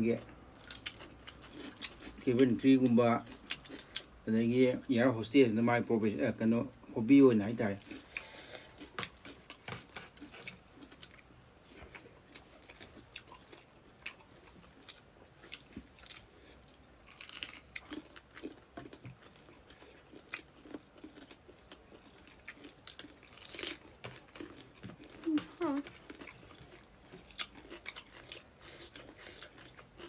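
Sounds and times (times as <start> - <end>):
person chewing food: 0.3 - 2.4, 3.2 - 4.2, 7.6 - 30.0.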